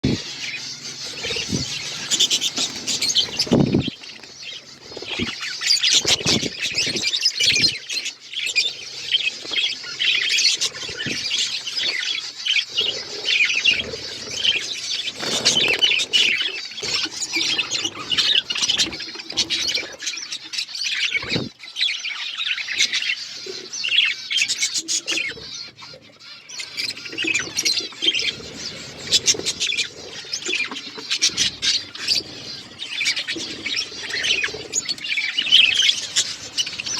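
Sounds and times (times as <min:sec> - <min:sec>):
budgerigars chirping and chattering: 0:00.0 - 0:36.9
birds pecking at seed: 0:00.1 - 0:36.9.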